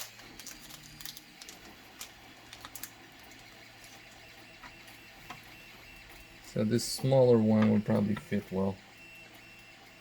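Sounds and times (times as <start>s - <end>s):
faint printer hum: 0.0s - 10.0s.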